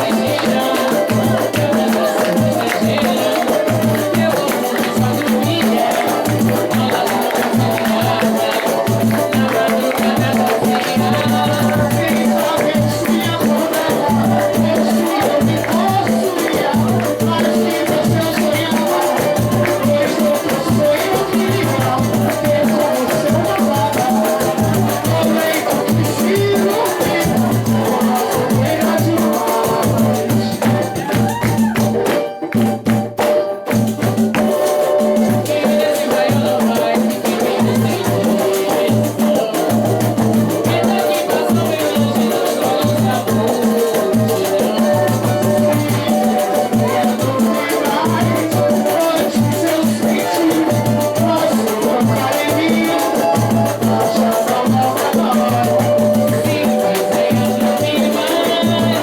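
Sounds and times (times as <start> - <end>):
fast shaker rhythm: 0.0 - 59.0
samba band playing: 0.0 - 59.0.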